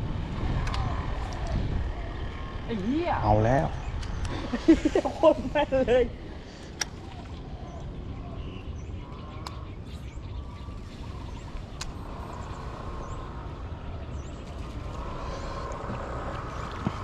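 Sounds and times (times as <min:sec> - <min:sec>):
faint steady hum: 0:00.0 - 0:17.0
steady low rumble: 0:00.0 - 0:17.0.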